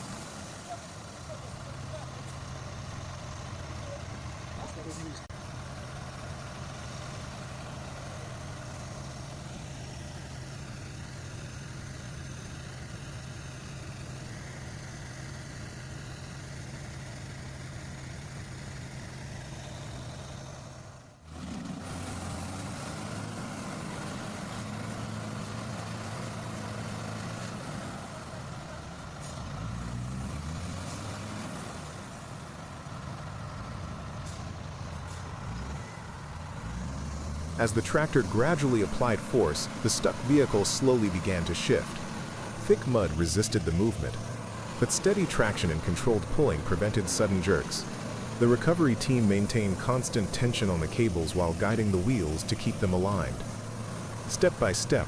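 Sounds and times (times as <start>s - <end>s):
engine working under load: 0.0s - 55.0s
heavy vehicle engines running: 0.0s - 55.0s.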